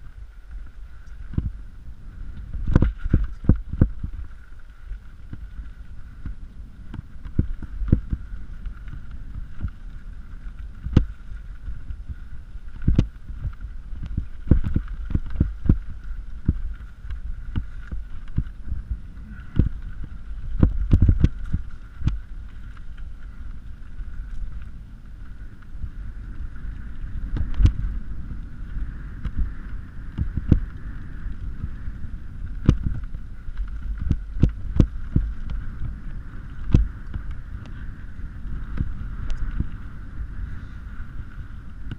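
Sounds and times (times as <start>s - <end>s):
bike knocking and rattling over bumps: 0.0s - 41.9s
bike tyres rumbling on gravel: 0.0s - 41.9s.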